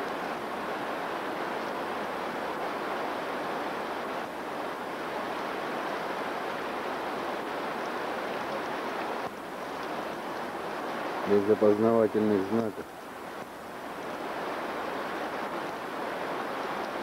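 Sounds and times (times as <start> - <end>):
lake waves washing on shore: 0.0 - 17.0.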